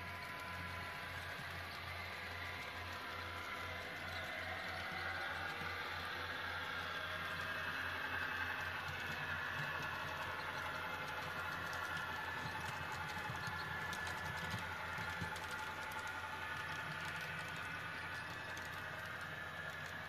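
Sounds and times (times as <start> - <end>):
model train wheels clicking: 0.0 - 20.0.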